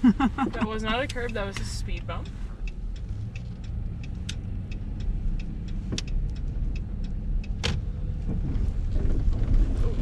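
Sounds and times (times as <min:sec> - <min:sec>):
turn signal ticking: 0:00.0 - 0:09.8
truck engine and road rumble: 0:00.0 - 0:10.0.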